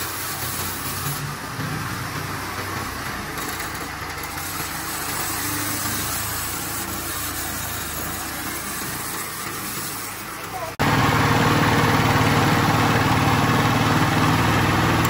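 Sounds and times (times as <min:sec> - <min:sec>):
sawmill engine hum: 0:00.0 - 0:15.0
sawmill hiss: 0:00.0 - 0:15.0.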